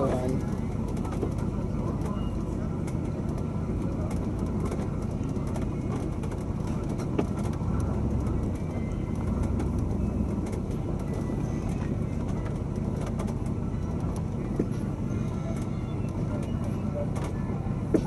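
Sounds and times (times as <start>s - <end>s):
car engine and cabin rumble: 0.0s - 18.0s.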